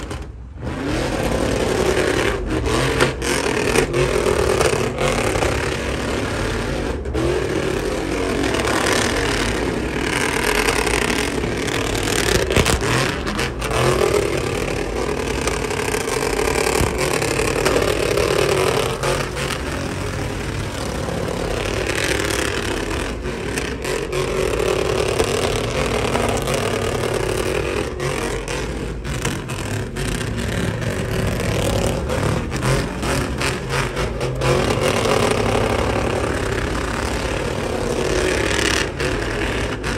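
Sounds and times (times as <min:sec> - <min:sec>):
truck engine at high revs: 0:00.0 - 0:39.9
tyres spinning on pavement: 0:00.0 - 0:39.9.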